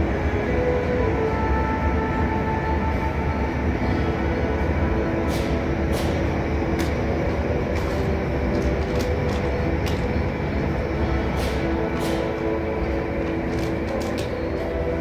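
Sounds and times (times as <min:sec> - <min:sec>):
mechanical drone with hum tones: 0:00.0 - 0:15.0.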